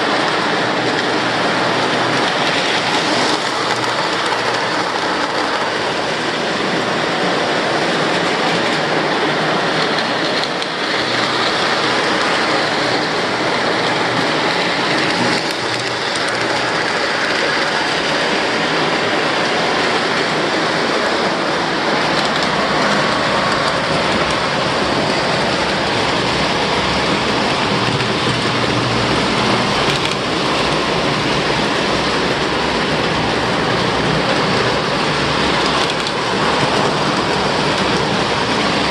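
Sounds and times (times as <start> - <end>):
model trains rumbling on track: 0.0 - 38.9.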